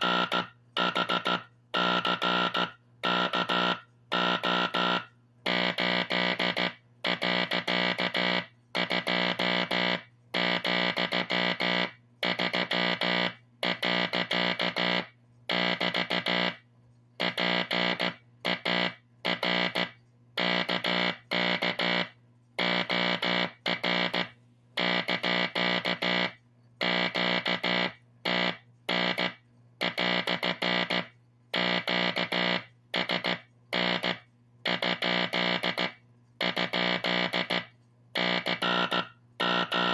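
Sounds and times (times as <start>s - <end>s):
morse code buzzy tone: 0.0s - 16.6s, 17.2s - 39.9s.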